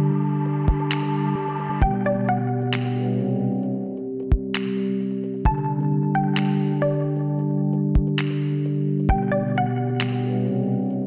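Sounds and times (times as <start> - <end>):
sustained synth chords: 0.0 - 4.4, 5.4 - 8.2, 8.8 - 11.0.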